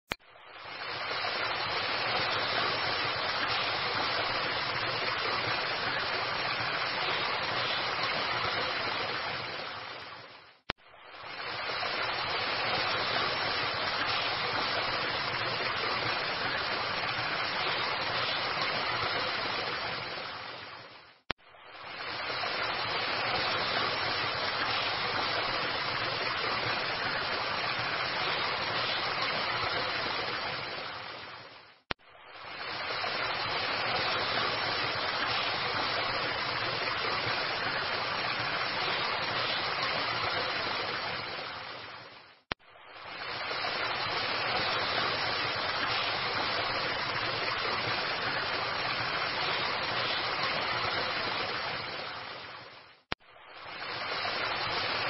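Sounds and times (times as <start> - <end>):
falling and splashing water: 0.1 - 55.0.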